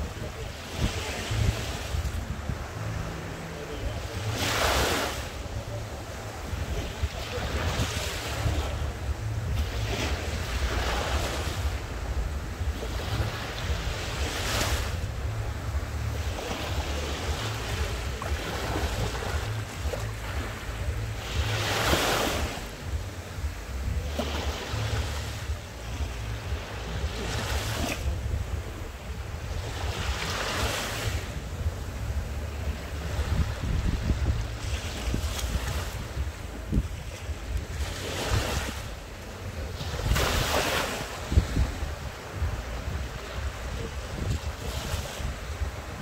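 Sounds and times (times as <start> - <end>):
waves breaking on sandy beach: 0.0 - 46.0
wind on microphone: 0.0 - 46.0.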